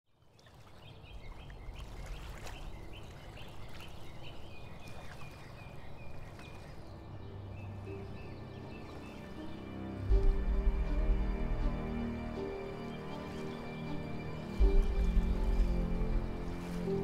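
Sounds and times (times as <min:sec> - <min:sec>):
birds chirping: 0:00.1 - 0:17.0
wind: 0:00.1 - 0:17.0
rumble of water: 0:00.2 - 0:17.0.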